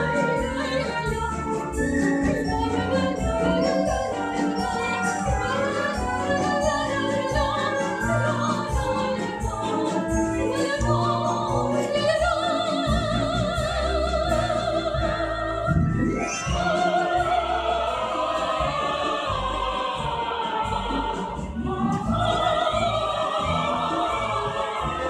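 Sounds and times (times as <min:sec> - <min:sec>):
operatic singing: 0:00.0 - 0:25.0
orchestral accompaniment: 0:00.0 - 0:25.0.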